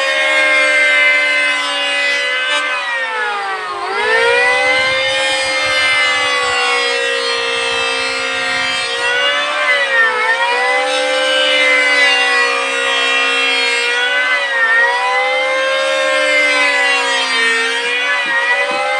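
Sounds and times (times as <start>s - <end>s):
power tool motor whine: 0.0s - 18.9s.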